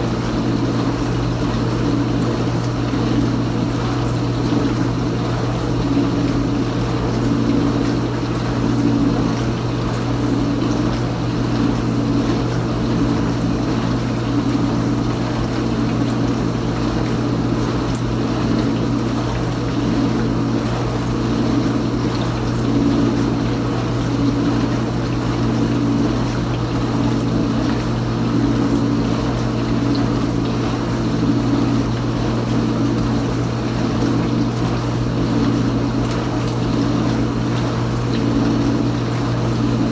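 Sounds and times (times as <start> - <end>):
dishwasher pump motor humming: 0.0 - 39.9.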